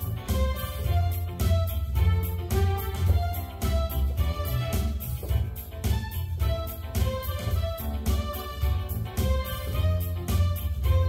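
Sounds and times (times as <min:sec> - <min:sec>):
keyboard melody with drum backing: 0:00.0 - 0:11.0.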